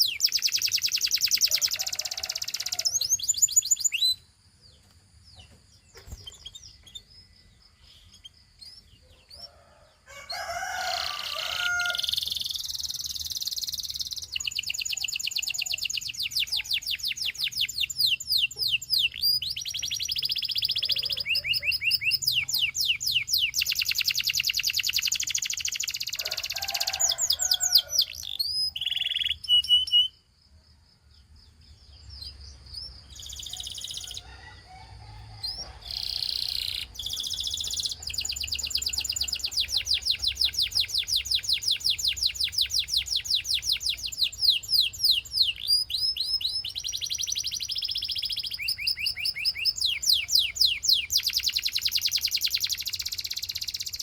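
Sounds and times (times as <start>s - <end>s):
canary singing trills: 0.0s - 30.3s, 31.5s - 54.0s.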